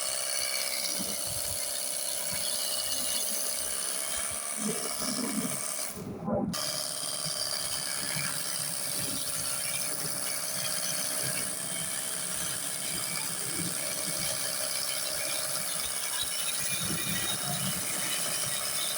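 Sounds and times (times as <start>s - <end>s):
pressure washer motor whine: 0.0s - 18.9s.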